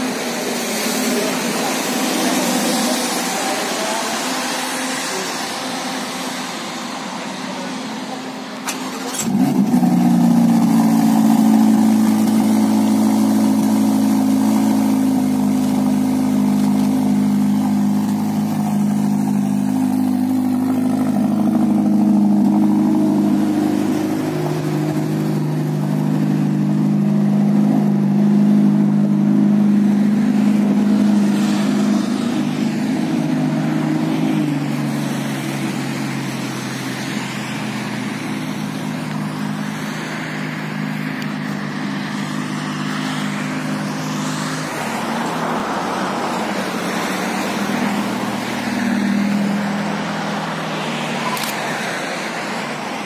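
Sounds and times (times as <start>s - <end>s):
car engine starting and idling: 0.0s - 53.0s.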